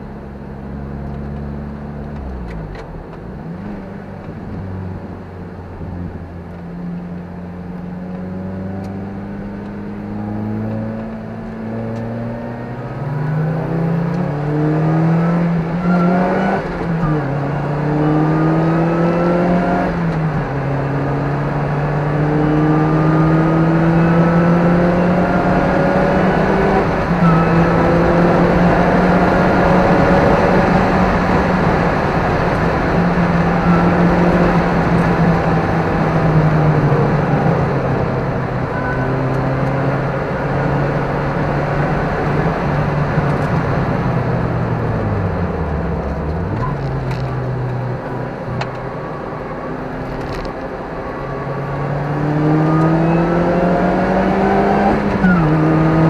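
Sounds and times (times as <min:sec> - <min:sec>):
car engine accelerating: 0:00.0 - 0:56.0
road and wind noise: 0:00.0 - 0:56.0.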